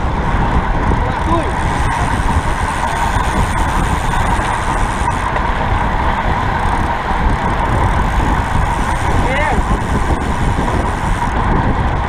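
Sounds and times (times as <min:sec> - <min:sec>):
tyre and road noise: 0:00.0 - 0:12.0
wind rushing over microphone: 0:00.0 - 0:12.0.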